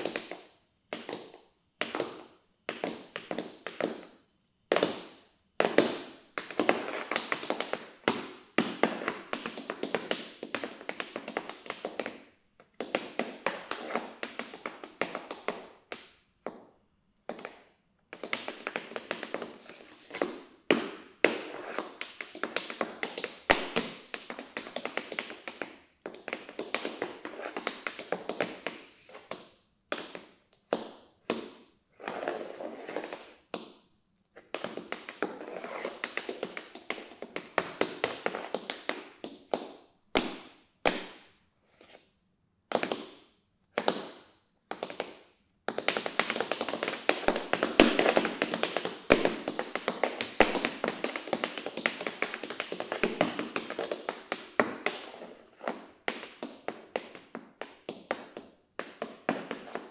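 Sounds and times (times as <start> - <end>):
tap shoes striking floor: 0.0 - 4.1, 4.7 - 16.7, 17.3 - 33.8, 34.4 - 41.3, 43.8 - 59.9.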